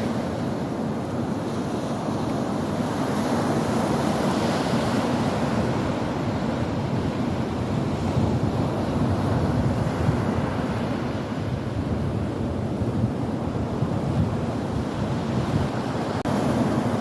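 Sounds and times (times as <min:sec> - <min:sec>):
ocean waves washing ashore: 0:00.0 - 0:17.0
wind noise on microphone: 0:00.0 - 0:17.0.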